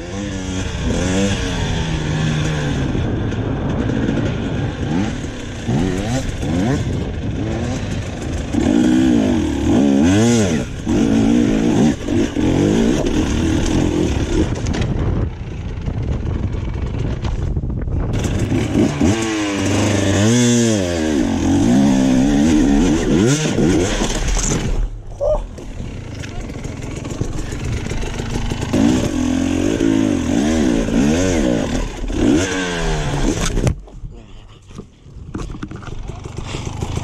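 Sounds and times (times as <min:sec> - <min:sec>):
dirt bike engine revving: 0:00.0 - 0:17.2, 0:18.1 - 0:33.7.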